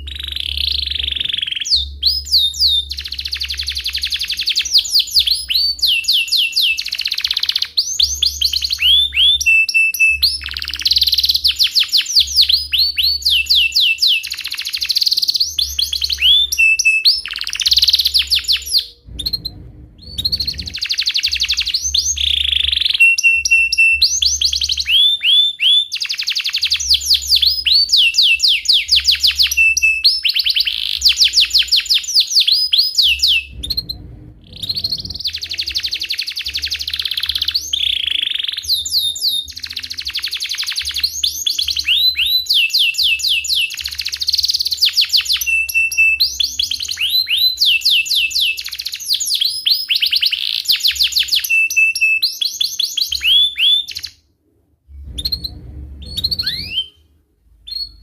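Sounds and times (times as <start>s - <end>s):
canary singing trills: 0.0s - 54.2s, 55.0s - 57.0s.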